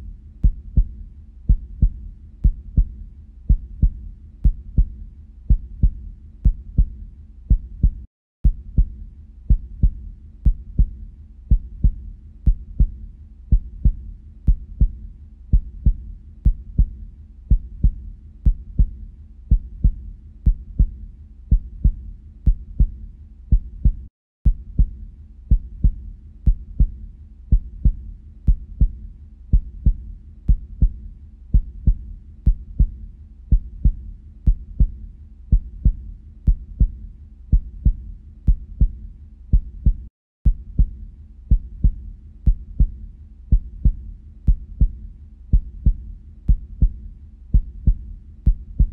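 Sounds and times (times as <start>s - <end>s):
heartbeat: 0.0s - 48.9s.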